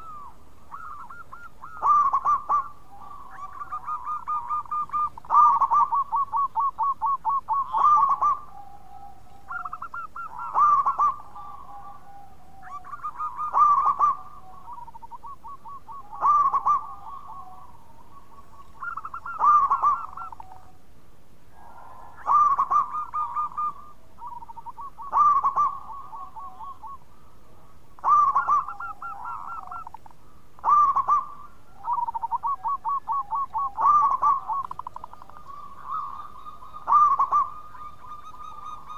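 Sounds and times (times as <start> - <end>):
dove cooing: 0.0 - 20.8, 21.5 - 38.9.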